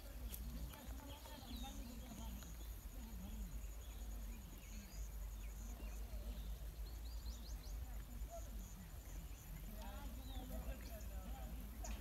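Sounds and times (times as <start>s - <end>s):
bird chirps: 0.2s - 12.0s.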